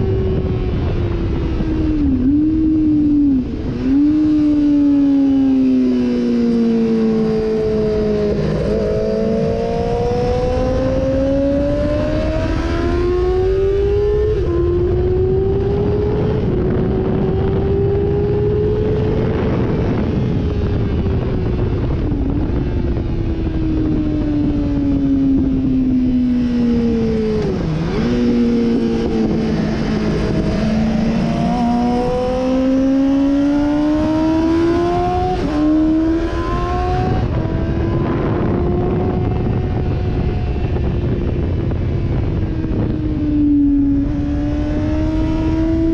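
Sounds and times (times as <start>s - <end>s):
motorcycle engine at speed: 0.0s - 45.9s
wind rush: 0.0s - 45.9s.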